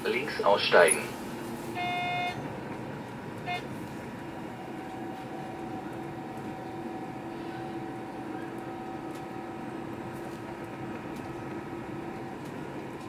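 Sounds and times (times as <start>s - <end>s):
train hum: 0.0s - 13.0s
faint steady tones: 0.4s - 13.0s.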